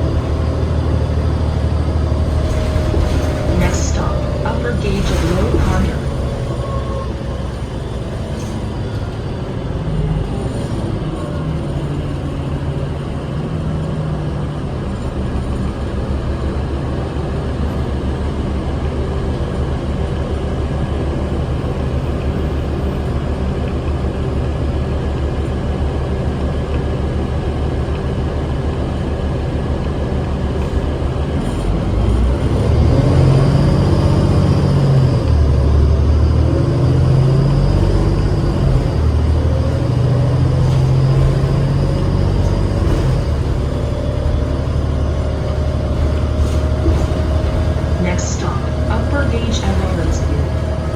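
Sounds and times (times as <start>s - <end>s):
bus diesel engine running: 0.0s - 50.9s
road noise: 0.0s - 50.9s.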